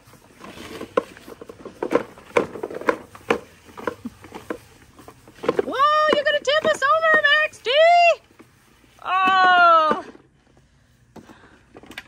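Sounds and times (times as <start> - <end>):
plastic toys knocking and clattering: 0.4 - 10.3, 11.1 - 12.0.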